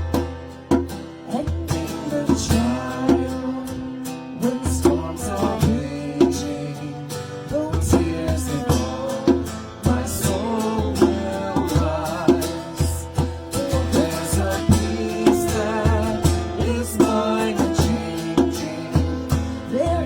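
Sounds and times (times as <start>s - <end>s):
guitar bass and drums: 0.0s - 20.0s
person singing: 1.2s - 20.0s.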